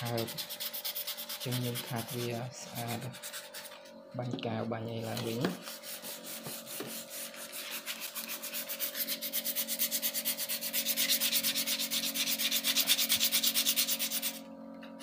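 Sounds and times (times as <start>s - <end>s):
sandpaper rubbing on wood: 0.0s - 3.8s, 5.0s - 14.4s.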